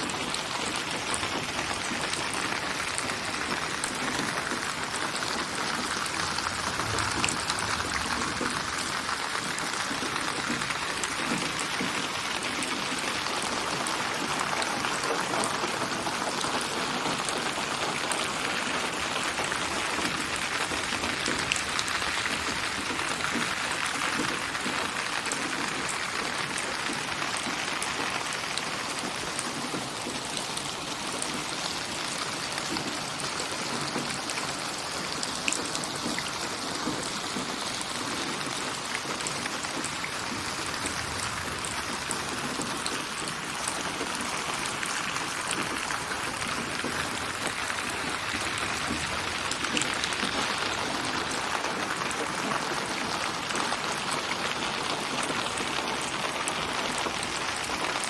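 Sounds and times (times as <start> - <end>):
steady rain hiss: 0.0 - 58.0
raindrop ticks: 0.2 - 18.2, 18.8 - 28.0, 32.6 - 58.0.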